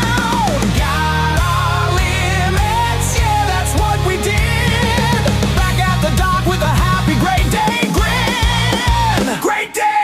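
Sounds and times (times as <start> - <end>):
heavy distorted rock music: 0.0 - 10.0.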